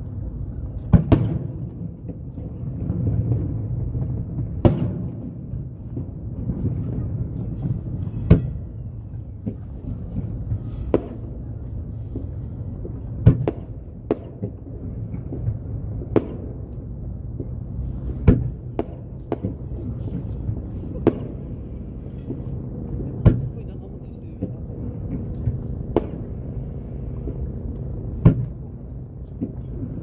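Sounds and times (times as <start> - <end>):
low rumble: 0.0 - 30.0
fireworks bursting: 0.9 - 30.0.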